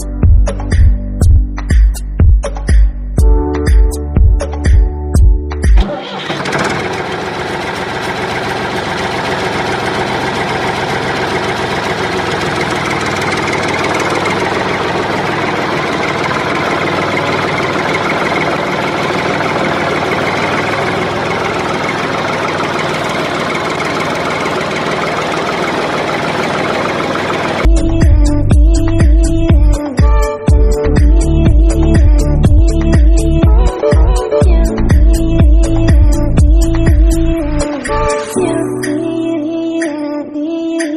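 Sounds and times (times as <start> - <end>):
tractor engine running: 0.0 - 38.3.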